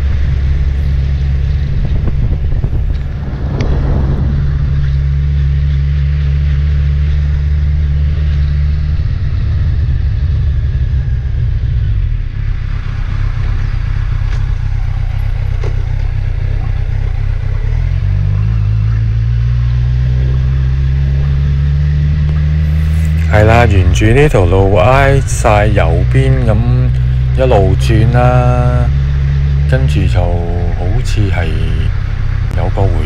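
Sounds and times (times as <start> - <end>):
car engine drone: 0.0 - 33.0
road noise: 0.0 - 33.0.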